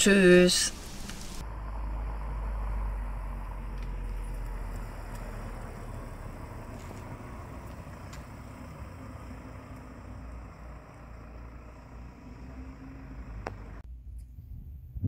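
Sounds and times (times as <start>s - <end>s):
car engine running at low speed: 1.0s - 15.0s.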